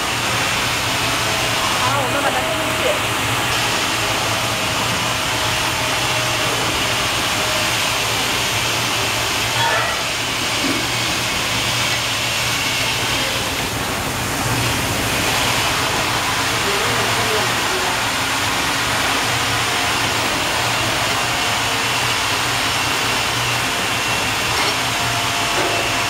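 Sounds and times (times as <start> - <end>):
heat press mechanical hiss: 0.0 - 26.0.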